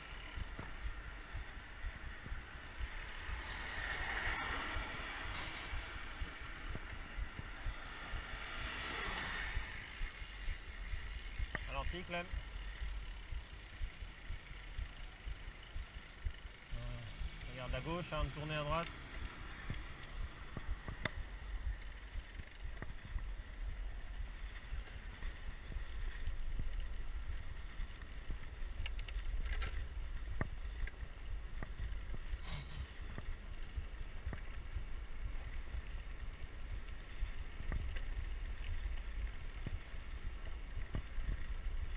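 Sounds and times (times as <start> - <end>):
bike clicks and knocks: 0.0 - 12.0, 18.0 - 23.6, 24.3 - 41.9.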